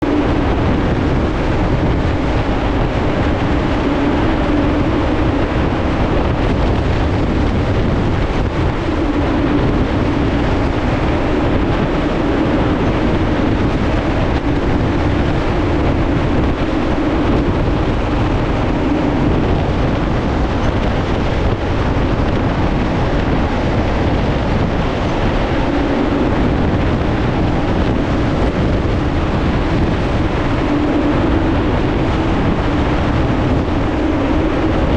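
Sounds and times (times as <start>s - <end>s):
rushing wind from fans: 0.0s - 34.9s
steady hum: 0.0s - 34.9s.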